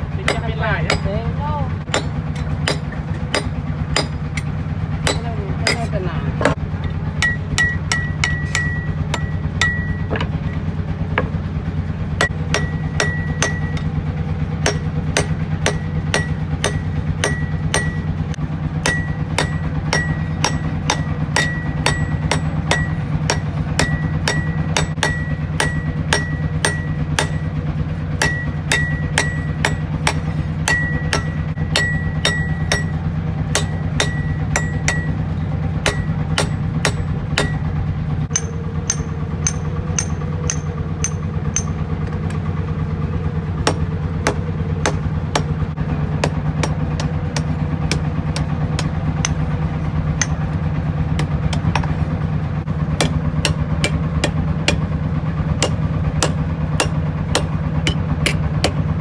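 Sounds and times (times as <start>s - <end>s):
steady low hum: 0.0s - 59.0s
hammer striking metal blade on anvil: 0.2s - 1.3s, 1.9s - 10.6s, 12.2s - 14.0s, 14.6s - 18.2s, 18.8s - 27.6s, 28.2s - 37.7s, 38.3s - 42.4s, 43.6s - 45.6s, 46.2s - 49.5s, 50.2s - 50.6s, 53.0s - 54.9s, 55.6s - 58.8s.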